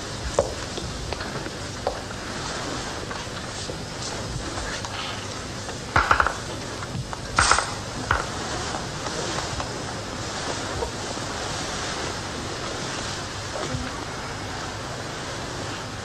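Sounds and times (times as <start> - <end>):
old recording hiss: 0.0 - 16.0.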